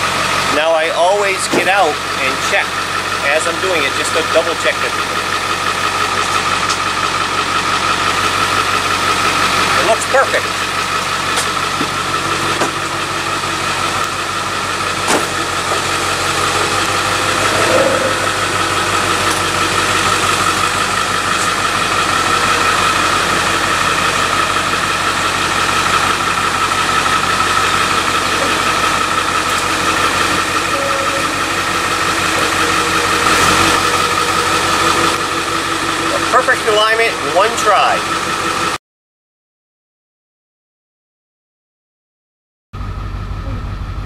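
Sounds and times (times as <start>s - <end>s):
diesel truck engine idling: 0.0s - 38.8s, 42.8s - 44.0s.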